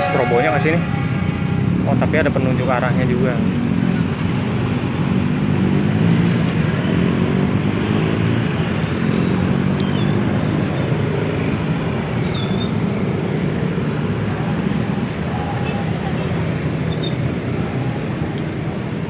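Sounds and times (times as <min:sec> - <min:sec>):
vehicle engines and tyre noise: 0:00.0 - 0:19.0.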